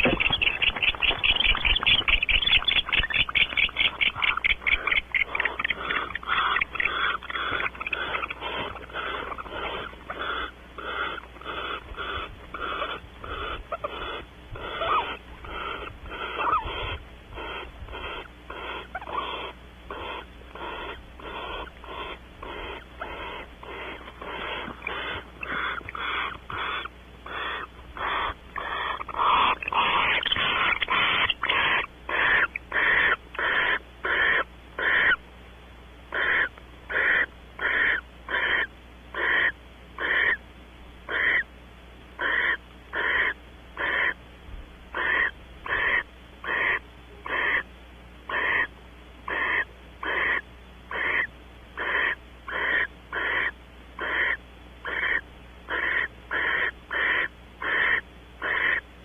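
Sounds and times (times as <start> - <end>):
barn owl rasping snore calls: 0.0 - 35.2, 36.1 - 40.4, 41.1 - 41.5, 42.2 - 44.2, 44.9 - 47.7, 48.3 - 58.9.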